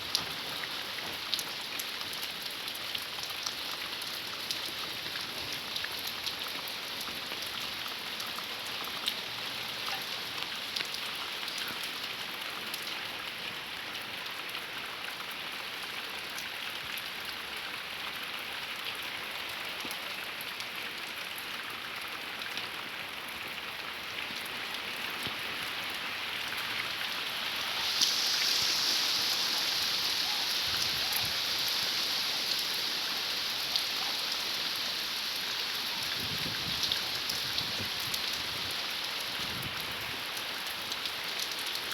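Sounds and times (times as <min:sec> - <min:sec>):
heavy rain falling: 0:00.0 - 0:14.2, 0:22.3 - 0:41.9.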